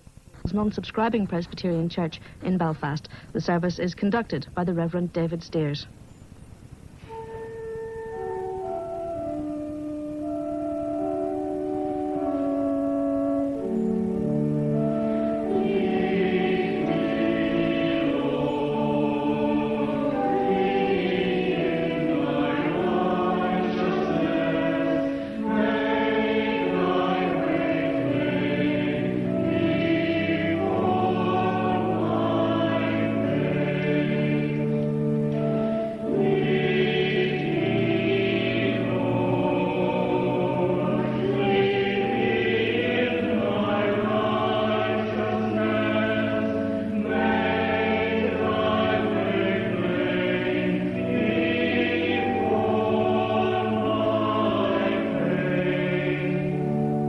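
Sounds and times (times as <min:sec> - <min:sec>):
choir singing held chords: 0:07.0 - 0:57.0.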